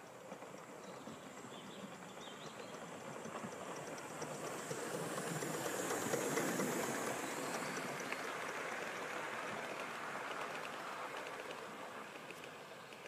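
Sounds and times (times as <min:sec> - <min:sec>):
model train wheels clattering: 0:00.0 - 0:13.0.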